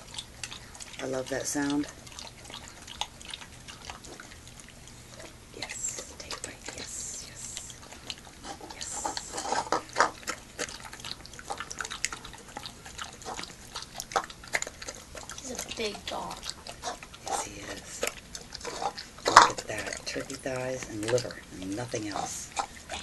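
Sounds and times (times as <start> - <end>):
dog chewing and gulping: 0.0 - 23.0.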